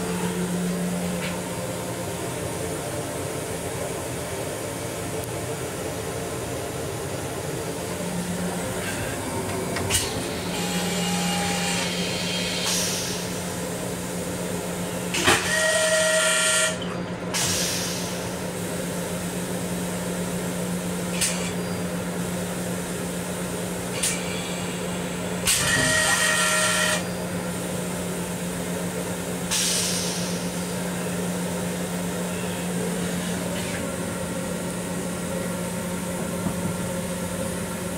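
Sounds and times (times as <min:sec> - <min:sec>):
electric railcar hum and hiss: 0:00.0 - 0:37.9.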